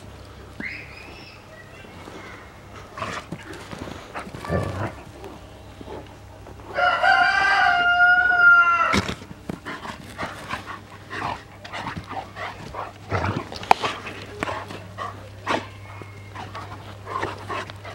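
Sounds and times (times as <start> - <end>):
dogs scuffling: 0.0 - 17.9.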